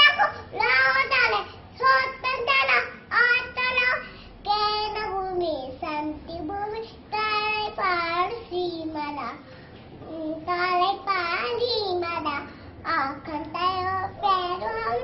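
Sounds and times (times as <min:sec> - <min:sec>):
girl singing unaccompanied: 0:00.0 - 0:15.0.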